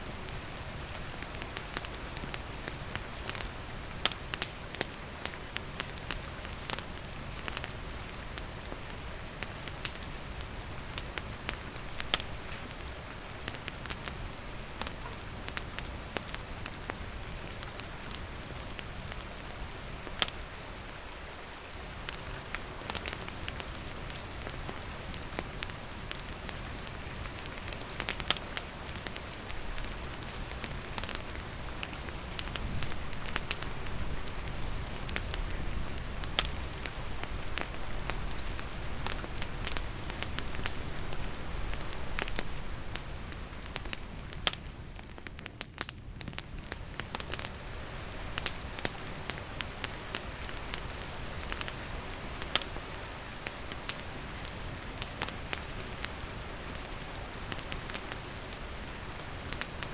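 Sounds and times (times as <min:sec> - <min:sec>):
campfire crackling and popping: 0:00.0 - 0:59.9
steady rainfall: 0:00.0 - 0:59.9.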